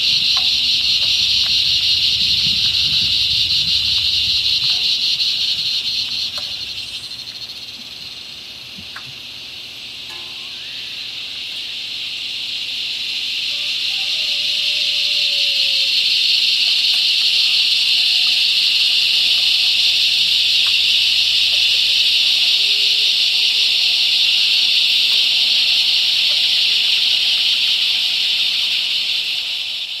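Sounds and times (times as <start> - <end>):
cicadas buzzing: 0.0 - 30.0.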